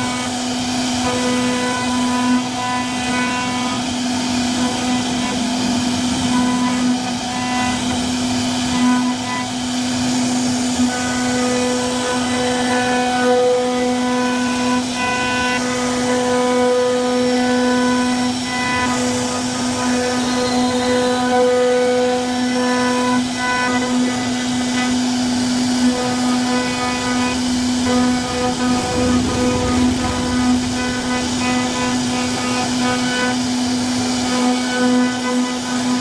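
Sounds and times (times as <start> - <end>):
bit cutting into wood: 0.0 - 36.0
router spindle whine: 0.0 - 36.0.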